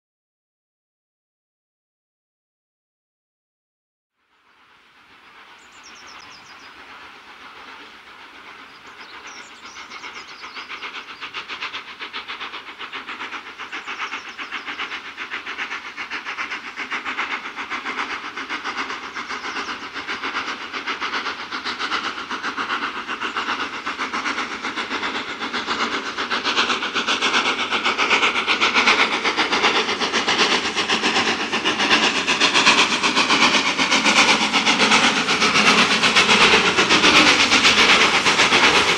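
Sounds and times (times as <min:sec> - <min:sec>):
steam locomotive exhaust beating: 0:04.3 - 0:38.9.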